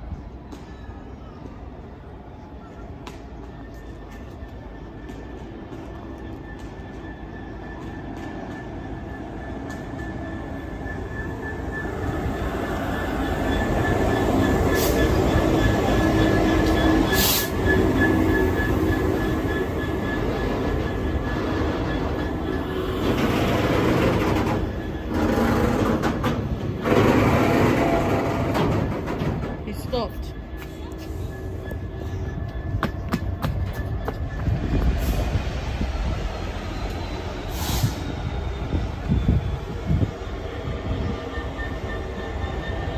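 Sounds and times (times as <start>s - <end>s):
diesel locomotive engine: 0.0s - 42.9s.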